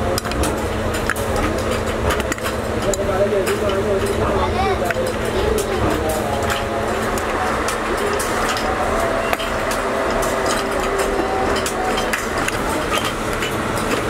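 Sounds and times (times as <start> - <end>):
faint voices: 0.0 - 14.0
scattered clicks: 0.0 - 14.0
workshop background noise: 0.0 - 14.0.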